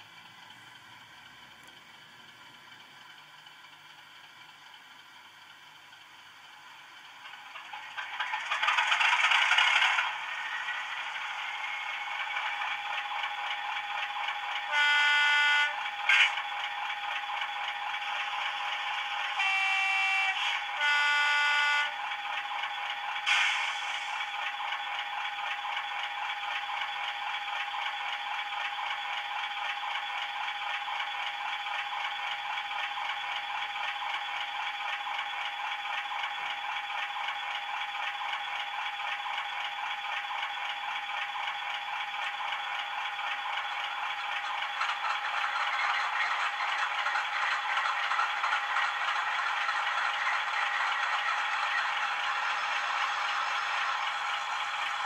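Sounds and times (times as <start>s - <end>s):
diesel engines idling from small speakers: 0.0s - 55.0s.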